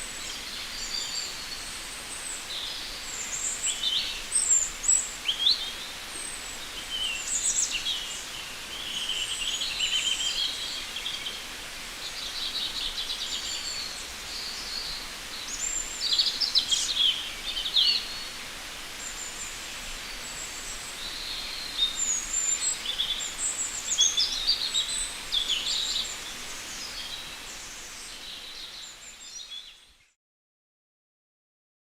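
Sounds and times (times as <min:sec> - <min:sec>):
ambient forest hiss: 0:00.0 - 0:30.2.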